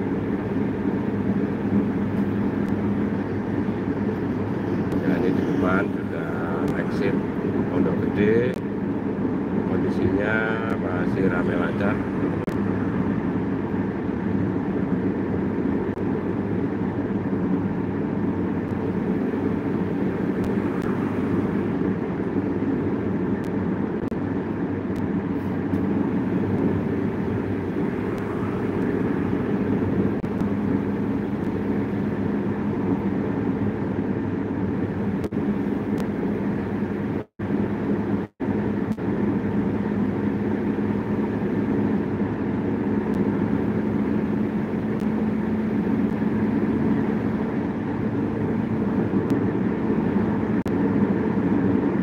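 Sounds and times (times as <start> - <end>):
car road noise from inside: 0.0 - 52.0.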